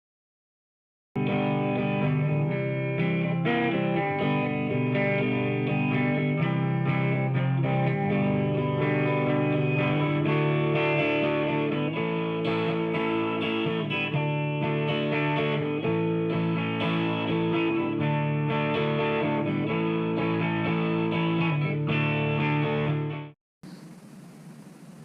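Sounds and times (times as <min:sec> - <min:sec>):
guitar-led instrumental music: 0:01.2 - 0:23.4.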